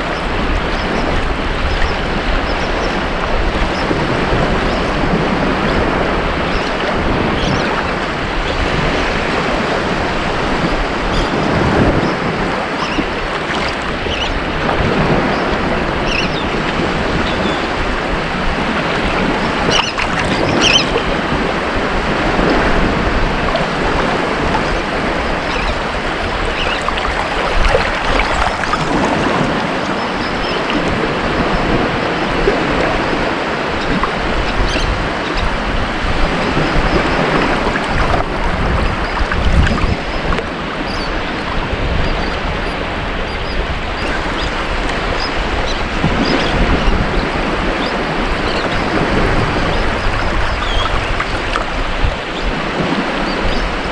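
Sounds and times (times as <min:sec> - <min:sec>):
waves breaking on a beach: 0:00.0 - 0:53.9.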